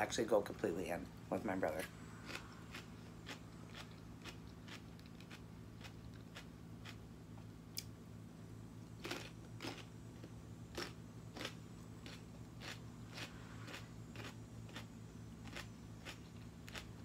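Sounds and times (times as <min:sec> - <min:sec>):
steady low hum: 0:00.0 - 0:17.0
chewing crunchy celery: 0:01.6 - 0:07.9, 0:08.8 - 0:17.0.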